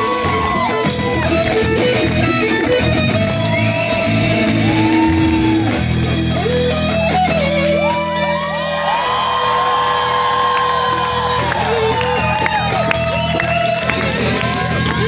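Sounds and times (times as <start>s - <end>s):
drums: 0.0s - 15.0s
electric guitar bending notes: 0.0s - 15.0s.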